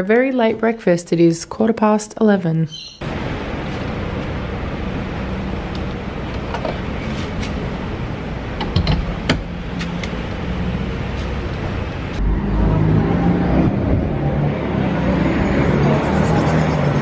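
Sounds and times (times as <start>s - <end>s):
traffic and engines rumbling: 2.8s - 17.0s.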